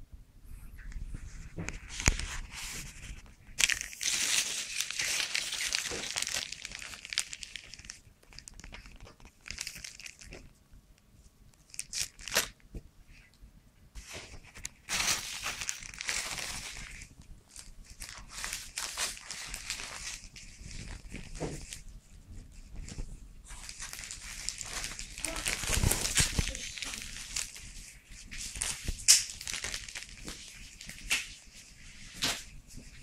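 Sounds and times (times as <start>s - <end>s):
plastic packaging crinkling: 1.5s - 10.6s, 11.5s - 12.6s, 14.0s - 21.9s, 22.6s - 32.6s.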